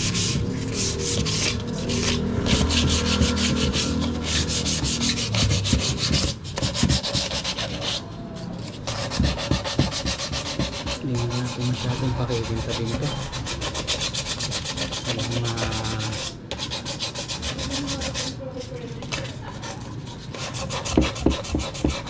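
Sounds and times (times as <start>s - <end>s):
sandpaper rubbing wood: 0.0s - 18.4s, 19.0s - 22.0s.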